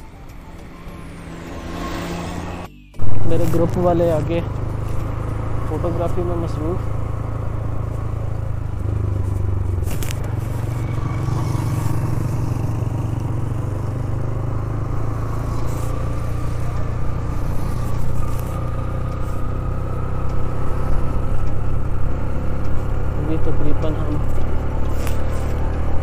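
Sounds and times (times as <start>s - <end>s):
motorcycle engine droning: 0.0s - 26.0s
road noise: 0.0s - 26.0s.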